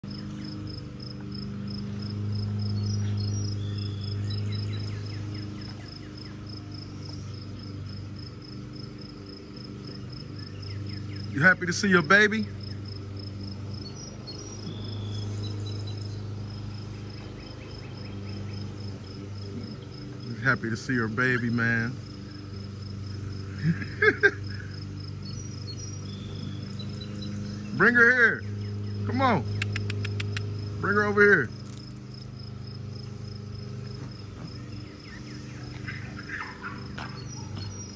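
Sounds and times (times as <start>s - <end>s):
continuous low hum: 0.0s - 37.9s
insects chirping: 0.0s - 37.9s.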